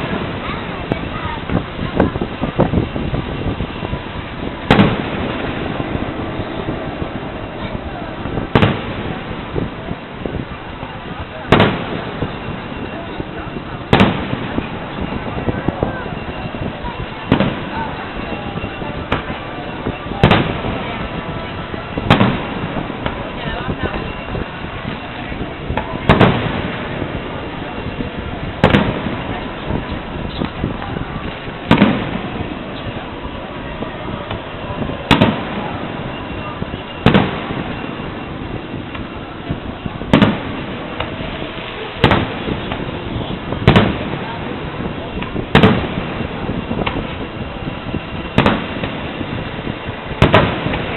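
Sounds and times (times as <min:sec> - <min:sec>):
firework shells bursting: 0:00.0 - 0:10.4, 0:11.4 - 0:50.9.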